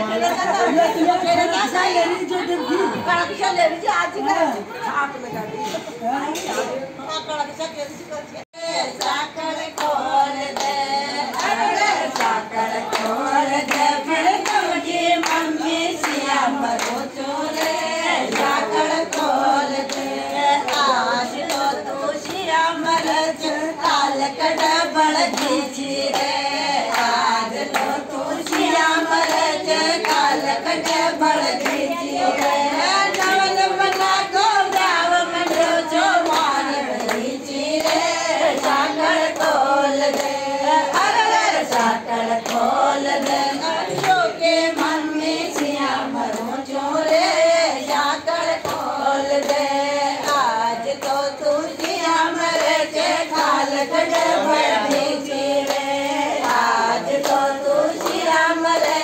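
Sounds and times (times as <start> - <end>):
women singing together: 0.0 - 7.6, 8.4 - 59.0.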